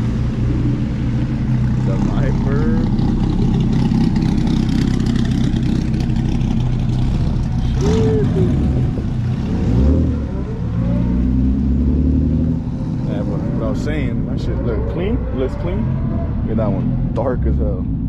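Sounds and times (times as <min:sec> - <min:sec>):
car engine idling: 0:00.0 - 0:18.0
deeper engine note: 0:00.0 - 0:18.0.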